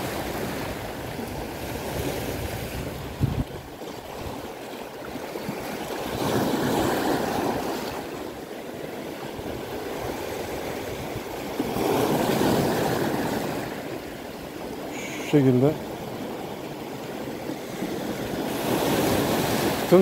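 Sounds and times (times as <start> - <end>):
waves washing onto pebbly shore: 0.0 - 20.0.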